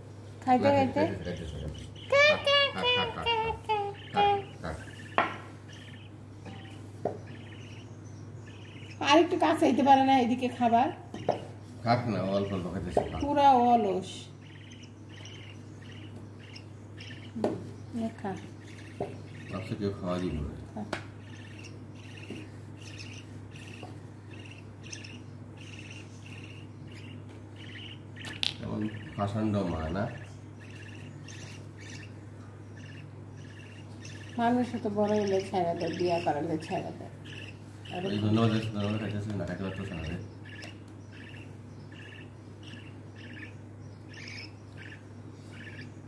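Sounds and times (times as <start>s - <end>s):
steady low hum: 0.0s - 46.0s
budgie chick cheeping: 1.8s - 11.4s, 13.0s - 20.4s, 21.1s - 39.2s, 39.8s - 46.0s.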